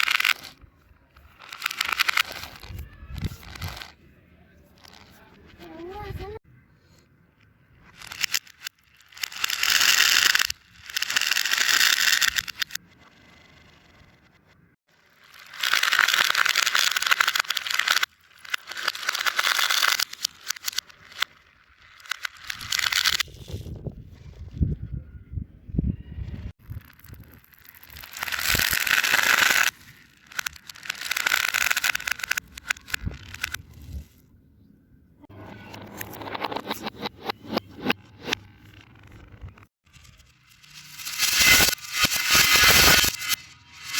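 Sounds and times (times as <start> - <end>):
fidget toy crackling: 0.0 - 4.0, 4.6 - 6.4, 7.8 - 14.4, 15.0 - 23.6, 26.6 - 34.2, 35.8 - 43.9.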